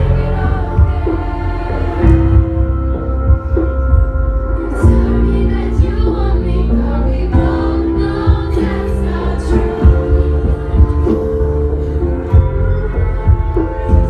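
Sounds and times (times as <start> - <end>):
woman singing lead vocals: 0.0 - 3.4, 4.4 - 14.0
heavy steady bass line: 0.0 - 14.0.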